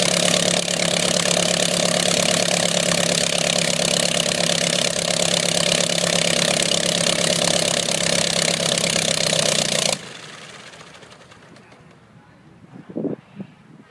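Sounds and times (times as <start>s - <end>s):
aircraft engine running: 0.0s - 12.2s.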